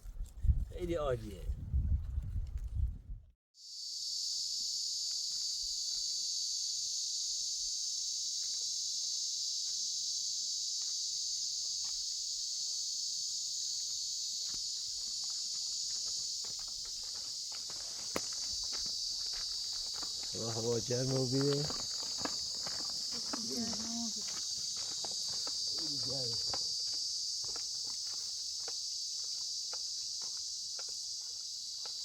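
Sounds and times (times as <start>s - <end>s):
insects droning: 3.6s - 32.0s.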